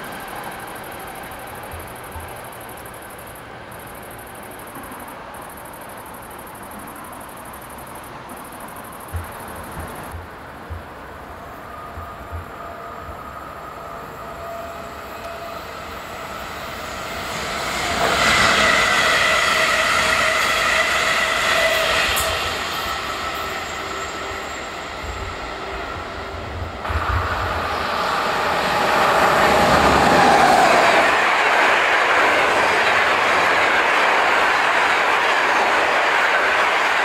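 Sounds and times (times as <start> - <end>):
electric locomotive approaching: 0.0 - 37.0
electric train passing: 0.0 - 37.0.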